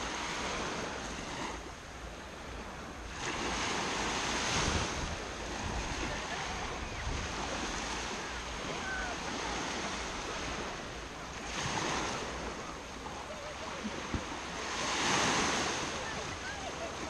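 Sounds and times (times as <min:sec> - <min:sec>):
waves washing onto sandy shore: 0:00.0 - 0:17.0.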